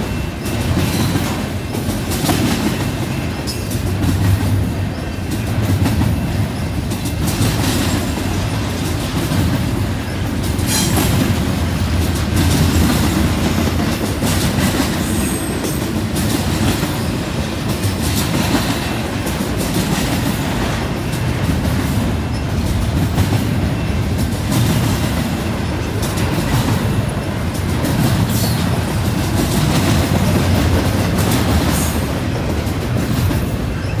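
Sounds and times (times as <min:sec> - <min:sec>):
freight train wheels rumbling: 0:00.0 - 0:34.0
rail clicks: 0:00.0 - 0:34.0.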